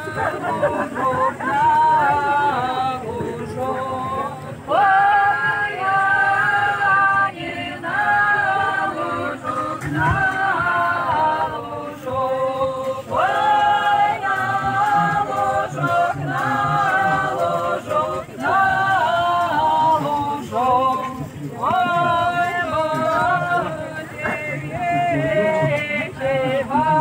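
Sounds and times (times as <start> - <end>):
group singing a cappella: 0.0 - 27.0.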